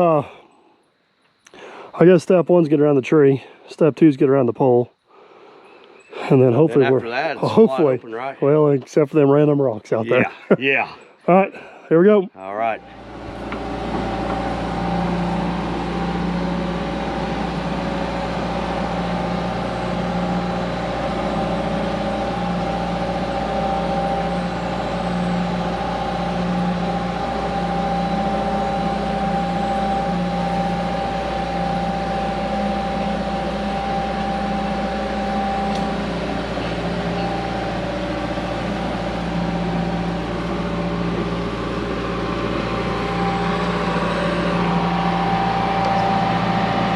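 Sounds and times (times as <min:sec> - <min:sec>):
steady high tone: 0:00.0 - 0:00.5, 0:05.7 - 0:46.9
excavator engine running: 0:05.4 - 0:46.9.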